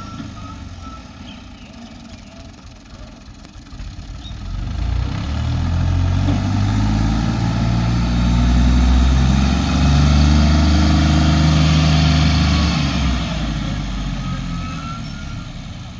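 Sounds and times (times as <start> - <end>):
large diesel engine running: 0.0 - 15.9.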